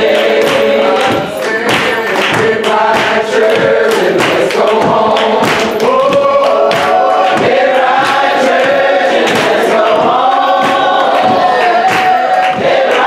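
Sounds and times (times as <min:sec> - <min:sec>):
congregation singing in harmony: 0:00.0 - 0:13.0
steady beat of sharp hits: 0:00.0 - 0:13.0.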